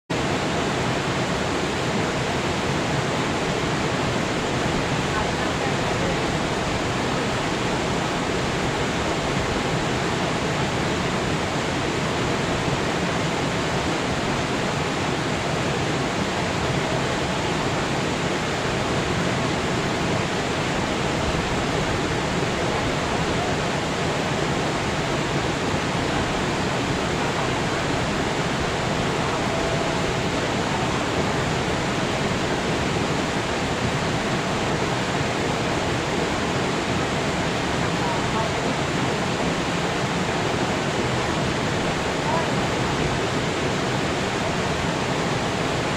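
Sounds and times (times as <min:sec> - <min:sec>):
river rushing over rocks: 0:00.1 - 0:45.9.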